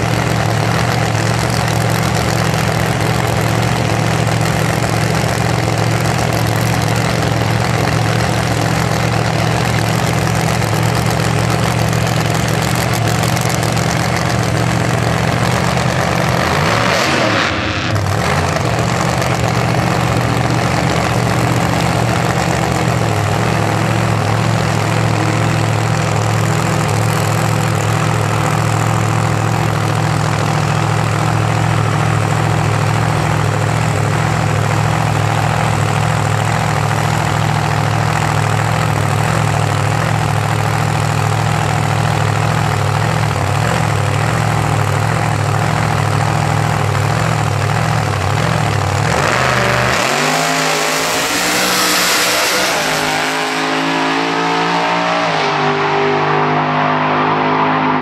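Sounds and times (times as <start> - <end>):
drag car engine idling loudly: 0.0 - 58.0.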